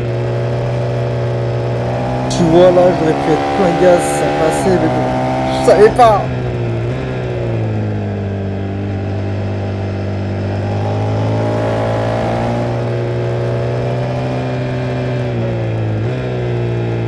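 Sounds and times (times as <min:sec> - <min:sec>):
motorcycle engine running at speed: 0:00.0 - 0:17.0.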